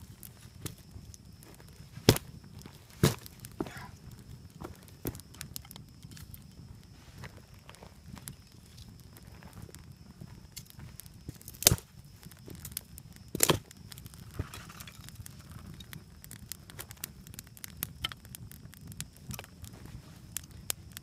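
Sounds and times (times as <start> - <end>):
loud sharp cracks of fire: 0.0 - 9.9, 10.5 - 21.0
campfire crackling and popping: 0.0 - 21.0.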